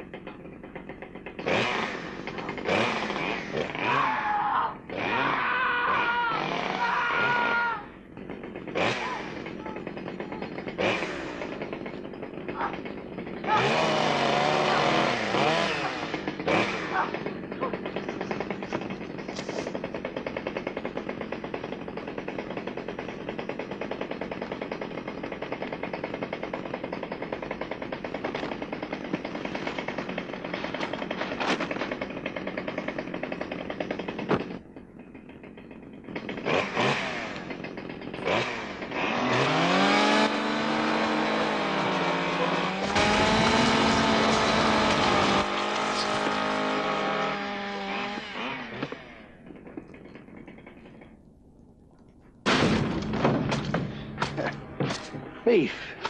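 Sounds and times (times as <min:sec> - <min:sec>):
chainsaw running and revving: 0:00.0 - 0:51.1.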